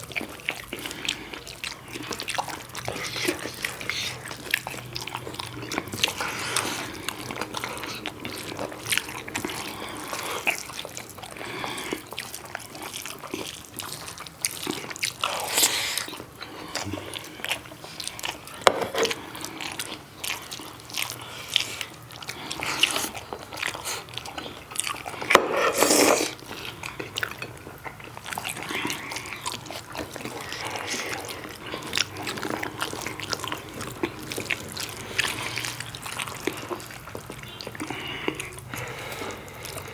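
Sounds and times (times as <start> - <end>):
people chewing food: 0.0 - 39.9.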